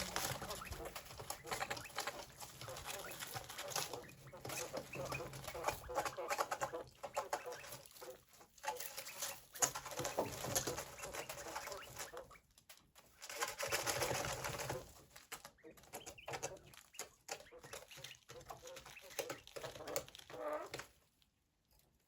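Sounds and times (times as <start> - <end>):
quail calling: 0.0 - 12.5, 13.4 - 20.8.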